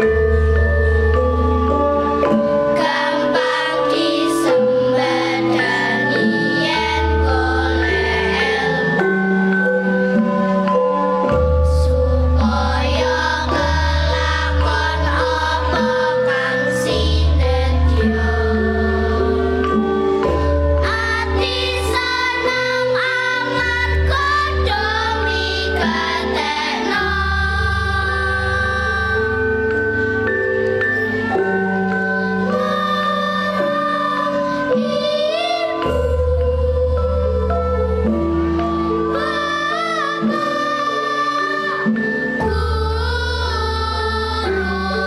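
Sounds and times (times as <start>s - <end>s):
instrumental accompaniment with bass: 0.0s - 45.0s
girls choir singing: 2.5s - 9.2s, 11.4s - 30.3s, 31.4s - 45.0s.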